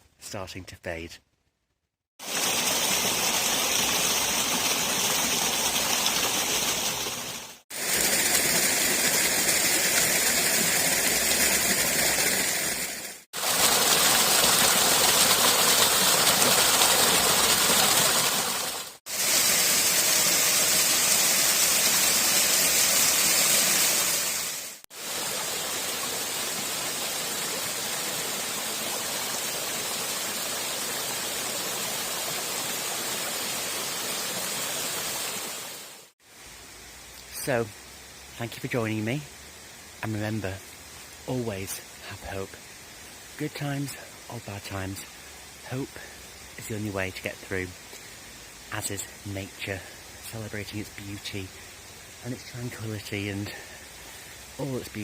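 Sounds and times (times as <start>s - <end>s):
running water rushing: 2.2s - 55.0s.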